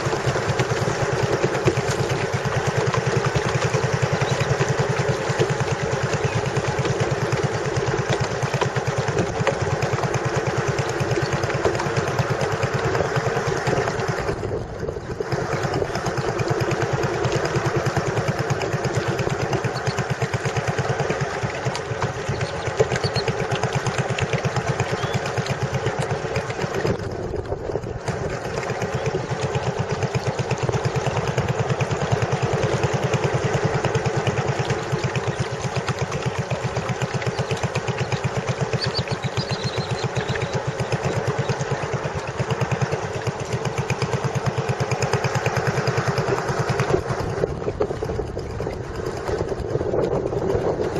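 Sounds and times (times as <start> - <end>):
small boat engine running: 0.0 - 50.9.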